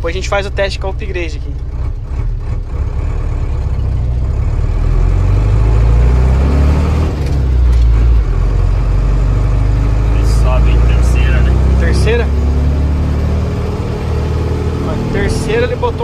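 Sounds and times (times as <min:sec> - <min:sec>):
diesel truck engine under load: 0:00.0 - 0:16.0.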